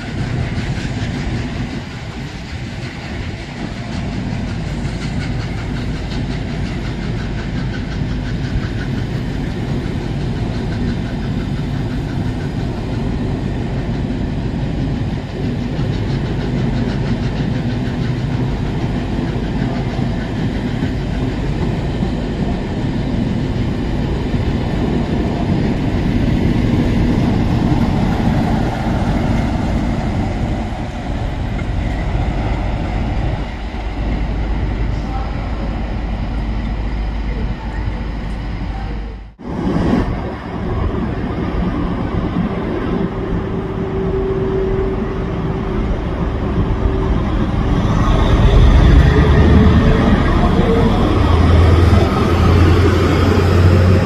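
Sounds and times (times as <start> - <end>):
diesel locomotive engine humming: 0.0 - 54.0
train wheels running over track: 0.0 - 54.0.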